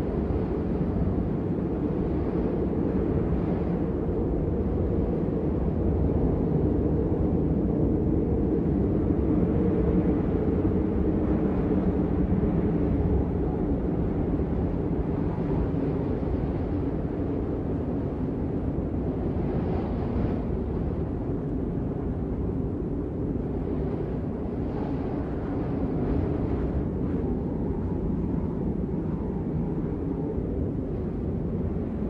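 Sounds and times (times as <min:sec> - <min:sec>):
blizzard wind rumble: 0:00.0 - 0:32.0.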